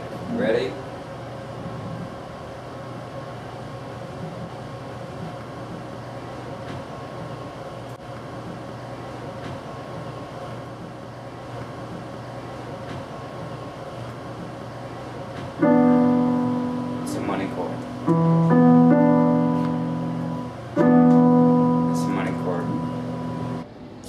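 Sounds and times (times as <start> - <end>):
background hum and hiss: 0.0 - 24.0.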